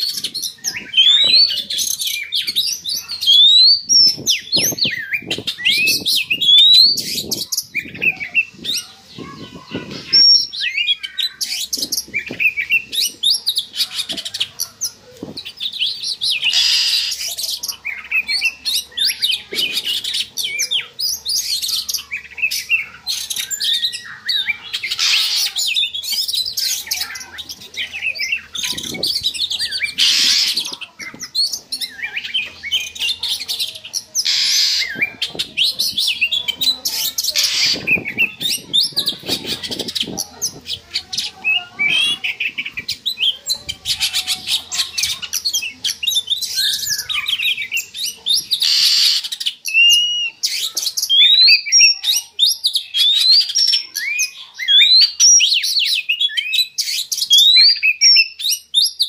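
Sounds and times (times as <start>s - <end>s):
bird singing whistles and rasps: 0.0s - 59.0s.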